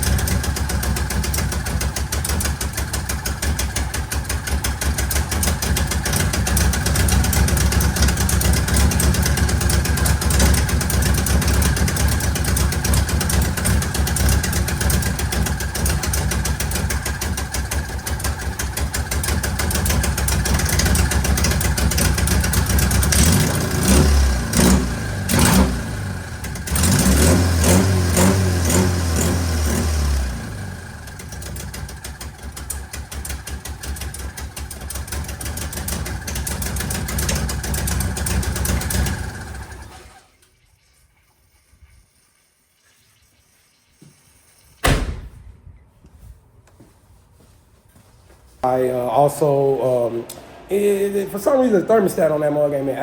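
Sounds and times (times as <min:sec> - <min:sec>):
car engine running: 0:00.0 - 0:40.3, 0:48.6 - 0:53.0.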